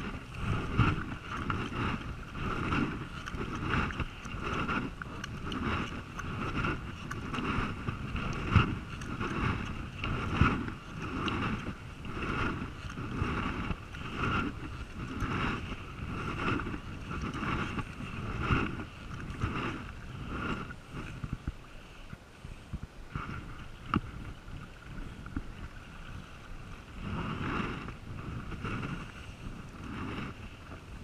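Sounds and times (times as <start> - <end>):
kayak paddle strokes splashing: 0.0 - 31.0.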